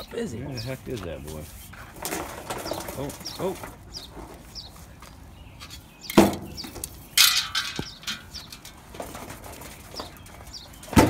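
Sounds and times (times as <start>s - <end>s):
bird flapping and scraping in pipe: 0.8s - 5.0s, 5.6s - 11.0s.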